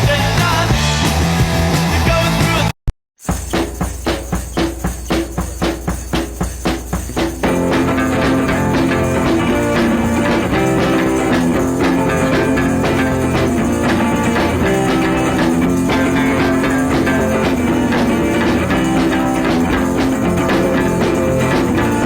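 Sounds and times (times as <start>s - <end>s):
rock music with guitar and drums: 0.0s - 2.7s, 3.5s - 22.0s.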